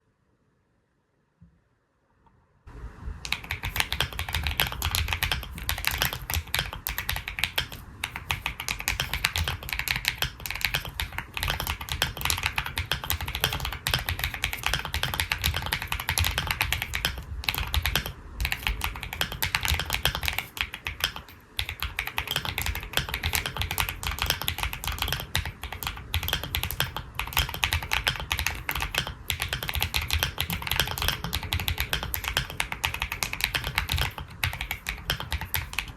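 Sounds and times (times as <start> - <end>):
mechanical keyboard typing: 3.3 - 35.9.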